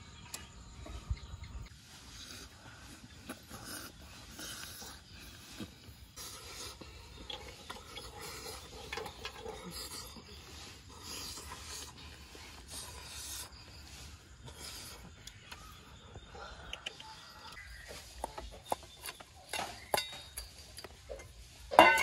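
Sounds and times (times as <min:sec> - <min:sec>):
chewing and crunching: 0:01.6 - 0:22.0.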